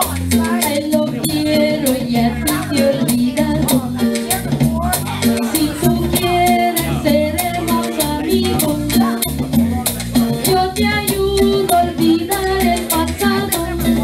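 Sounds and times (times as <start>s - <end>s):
backing music with bass beat: 0.0s - 14.0s
quick rhythmic percussion: 0.0s - 14.0s
woman singing into a microphone: 0.3s - 4.2s, 5.4s - 9.3s, 10.4s - 14.0s.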